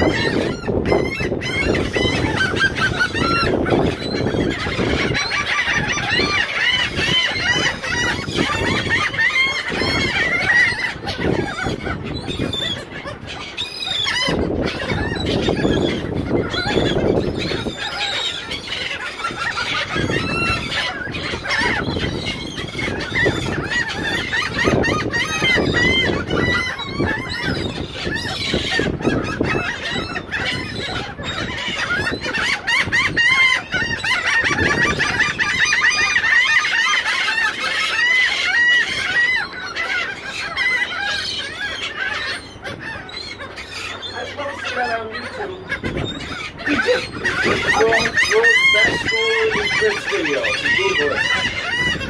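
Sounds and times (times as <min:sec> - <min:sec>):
gulls calling: 0:00.0 - 0:52.0.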